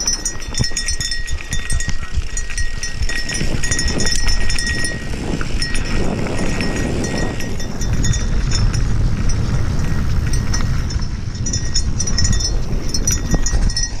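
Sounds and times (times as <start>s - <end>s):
bike and gravel clicks and rattles: 0.0s - 14.0s
bike tyres rolling on dirt: 0.0s - 14.0s
wind buffeting microphone: 0.0s - 14.0s.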